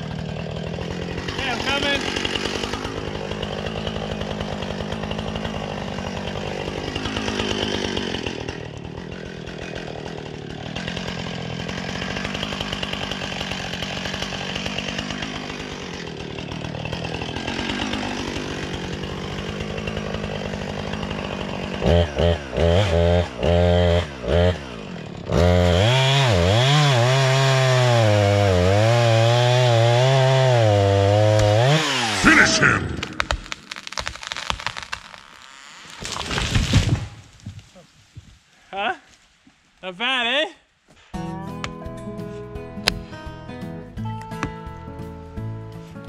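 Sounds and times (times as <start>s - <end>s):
chainsaw cutting tree trunk: 0.0s - 38.2s.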